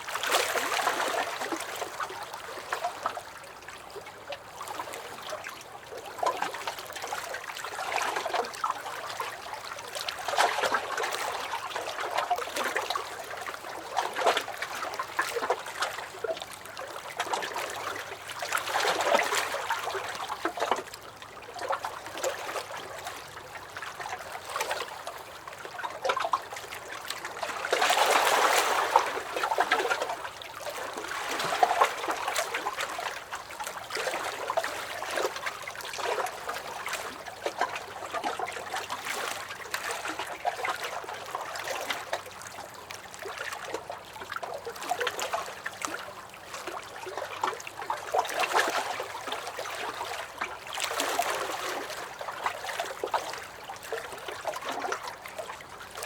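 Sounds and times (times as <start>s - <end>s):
waves lapping against a dock: 0.0s - 56.0s.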